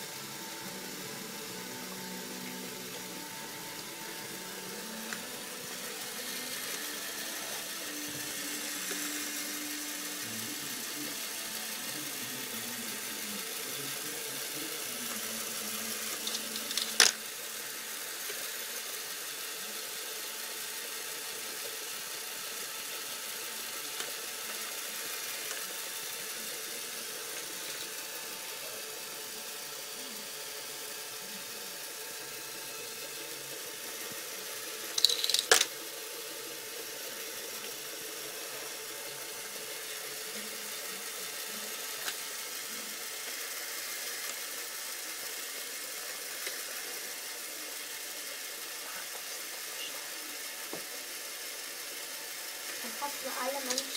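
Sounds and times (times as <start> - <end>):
electric motor whining: 0.0 - 53.9.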